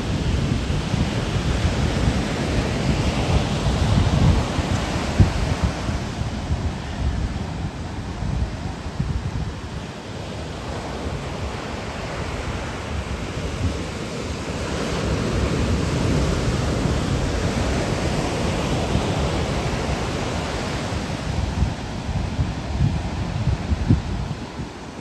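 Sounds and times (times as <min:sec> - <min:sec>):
ocean surf washing: 0:00.0 - 0:25.0
wind rumbling on microphone: 0:00.0 - 0:25.0.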